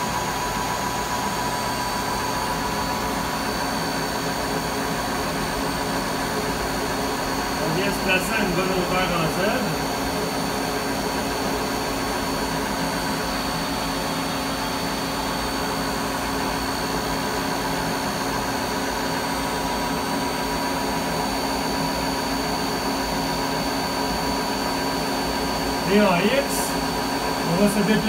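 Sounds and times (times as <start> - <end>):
milling machine humming and whining: 0.0 - 28.0.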